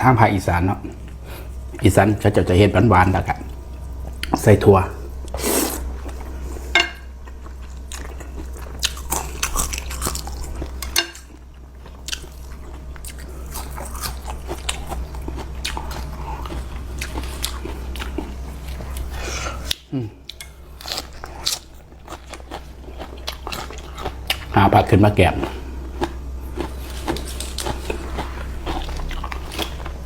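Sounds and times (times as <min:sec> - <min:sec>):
low background hum: 0:00.0 - 0:30.0
person chewing noodles: 0:05.0 - 0:24.6, 0:25.3 - 0:30.0.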